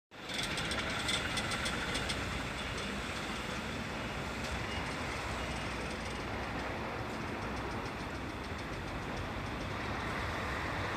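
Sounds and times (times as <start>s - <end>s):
vehicle noise: 0.1s - 10.9s.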